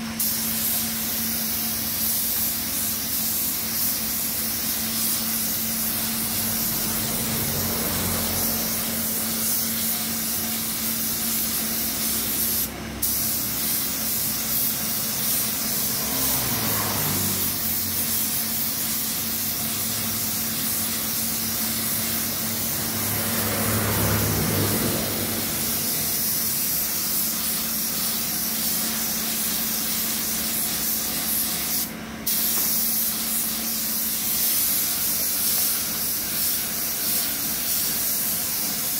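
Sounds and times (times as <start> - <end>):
paint spray gun hissing: 0.0 - 38.9.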